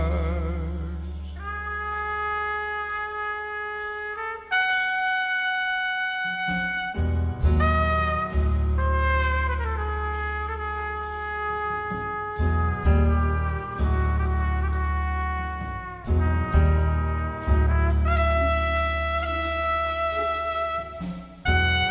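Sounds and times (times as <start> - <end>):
heavy low bass notes: 0.0 - 4.6, 6.8 - 21.9
brass section sustained chords: 1.4 - 21.9.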